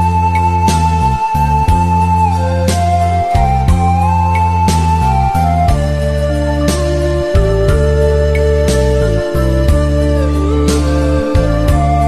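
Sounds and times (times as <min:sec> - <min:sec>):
music with heavy bass: 0:00.0 - 0:12.0
sliding melody: 0:00.0 - 0:12.0.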